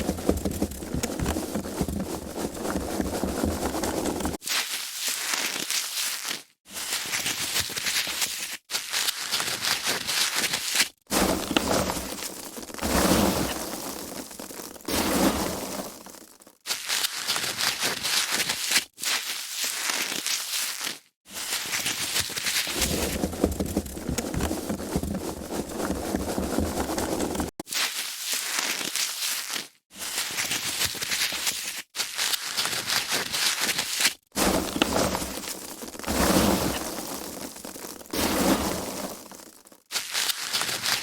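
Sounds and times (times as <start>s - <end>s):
foam packaging crackling: 0.0s - 14.8s, 15.8s - 41.0s.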